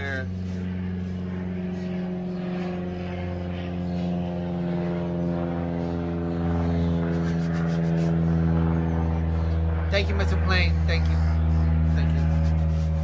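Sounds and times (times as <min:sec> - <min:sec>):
propeller airplane engine drone: 0:00.0 - 0:13.0.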